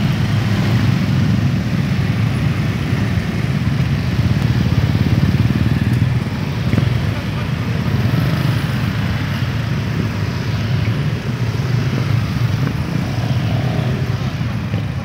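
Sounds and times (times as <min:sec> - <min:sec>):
motorcycles and scooters passing: 0:00.0 - 0:15.0.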